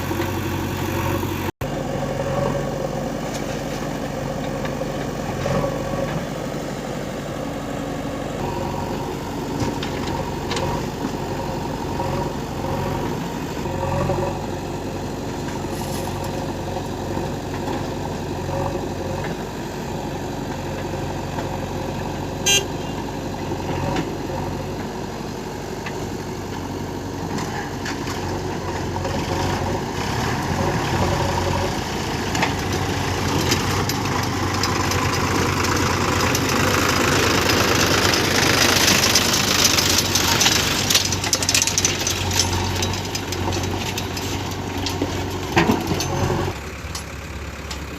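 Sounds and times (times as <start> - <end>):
diesel engines running: 0.0 - 47.9.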